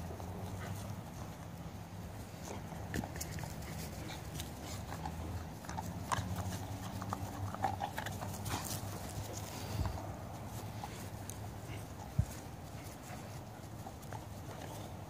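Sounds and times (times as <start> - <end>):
dogs play-fighting: 0.0 - 15.0
paws scuffling on turf: 0.0 - 15.0.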